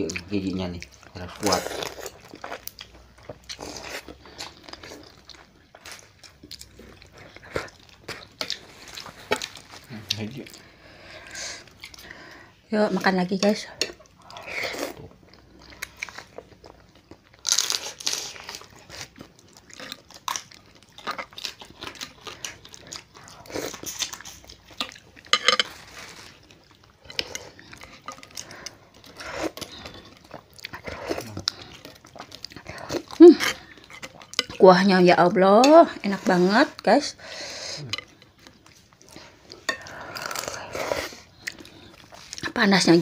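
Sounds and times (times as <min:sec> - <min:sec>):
chewing and crunching crab: 0:00.0 - 0:12.6, 0:13.4 - 0:35.1, 0:35.9 - 0:43.0.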